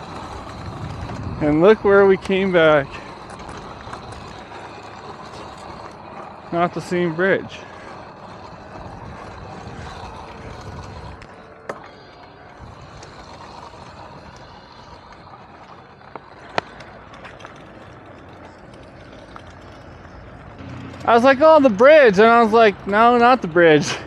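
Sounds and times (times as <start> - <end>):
bike clicks and knocks: 0.0 - 24.0
tyre and wind noise: 0.0 - 24.0.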